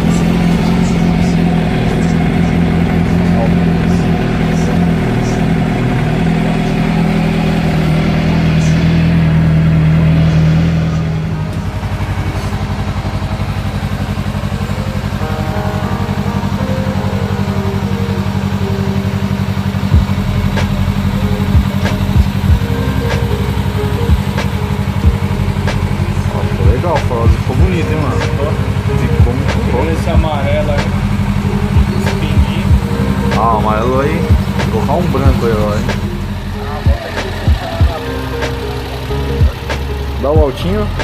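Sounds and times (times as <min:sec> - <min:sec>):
motorcycle engine revving and idling: 0:00.0 - 0:41.0.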